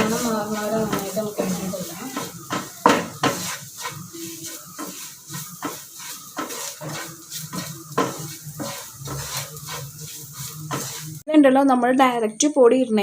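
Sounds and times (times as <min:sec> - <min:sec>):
spoon scraping a pan: 0:00.0 - 0:11.2
faint frying sizzle: 0:00.0 - 0:11.8.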